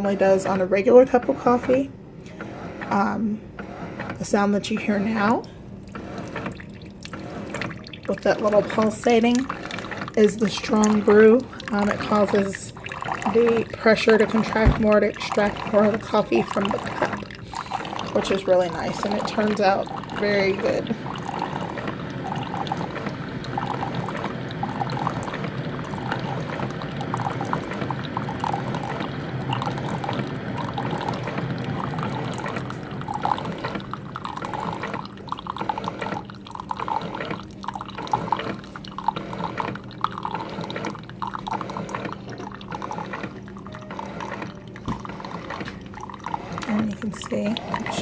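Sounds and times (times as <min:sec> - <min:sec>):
coffee maker pump humming: 0:00.0 - 0:48.0
coffee pouring into cup: 0:05.8 - 0:48.0.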